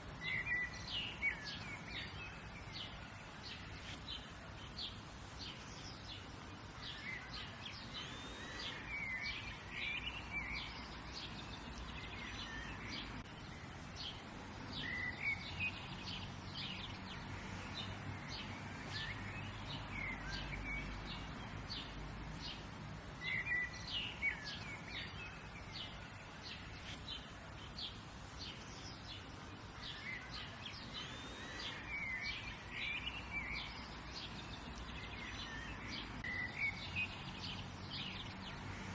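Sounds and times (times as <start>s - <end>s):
bird song phrase: 0.0s - 38.9s
birds chirping: 0.0s - 38.9s
steady background hiss: 0.0s - 38.9s.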